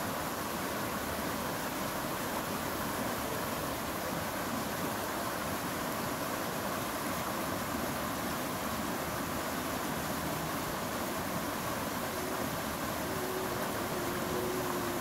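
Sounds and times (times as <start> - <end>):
water running fast over rocks: 0.0 - 15.0.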